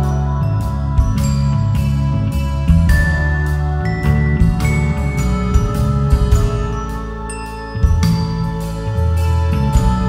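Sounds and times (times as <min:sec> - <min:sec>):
tinkling chiming music over bass: 0:00.0 - 0:10.0.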